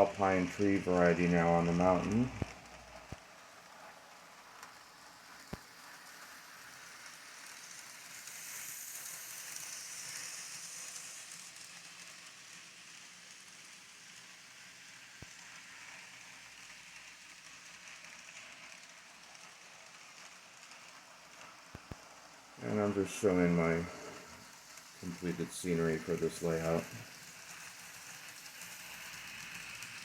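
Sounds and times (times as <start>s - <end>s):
faint background hiss: 0.0s - 30.0s.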